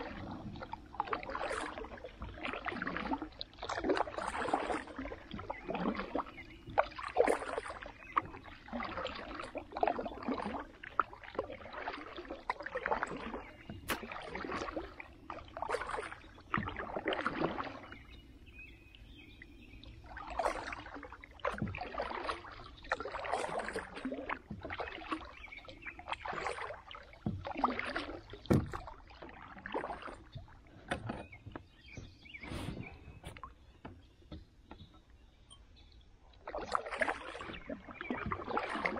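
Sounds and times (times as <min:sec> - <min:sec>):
paddle strokes swishing through water: 0:00.0 - 0:38.9.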